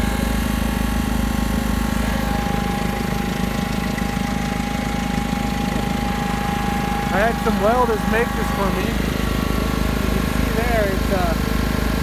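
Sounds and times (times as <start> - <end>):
backhoe engine running: 0.0 - 12.0
snowblower whine: 0.0 - 12.0.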